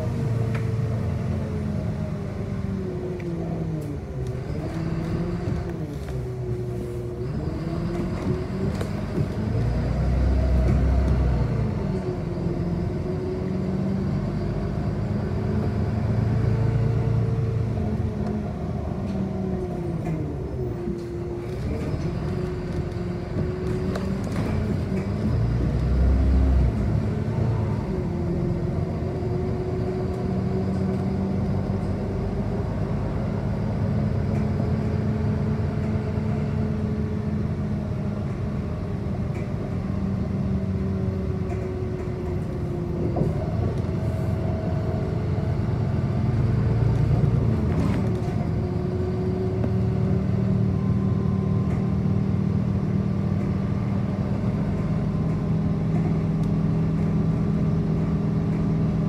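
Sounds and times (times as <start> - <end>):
bus drivetrain hum: 0.0 - 59.0.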